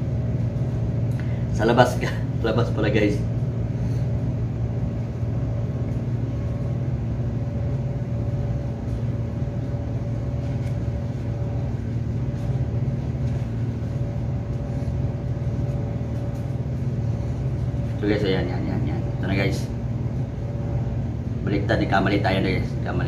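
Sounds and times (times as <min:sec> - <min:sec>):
low machine hum with tones: 0:00.0 - 0:23.0.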